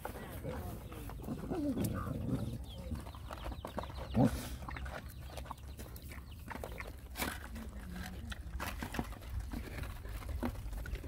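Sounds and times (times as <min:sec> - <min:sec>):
dogs chewing and lapping: 0:00.0 - 0:11.0.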